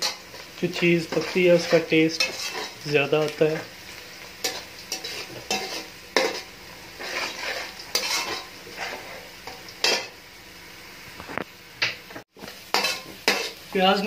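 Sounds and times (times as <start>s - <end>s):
metal spoon scraping a pan: 0.0s - 10.2s, 12.4s - 13.7s
onions sizzling in hot oil: 0.0s - 14.0s.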